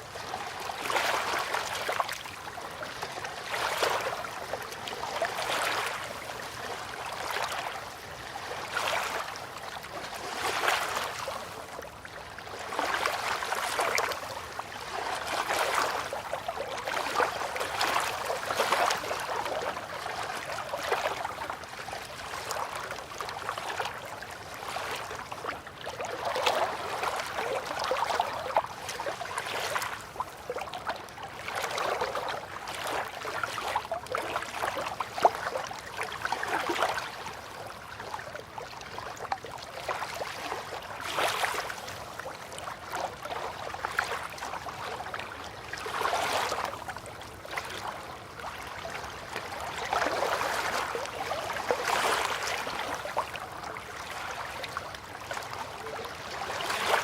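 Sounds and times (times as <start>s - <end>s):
river water lapping against bank: 0.0s - 57.0s.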